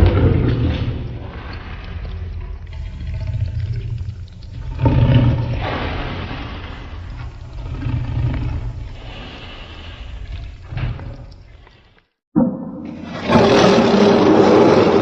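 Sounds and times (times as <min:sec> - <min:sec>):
deep rumbling monster roar: 0:00.0 - 0:11.2, 0:13.0 - 0:15.0.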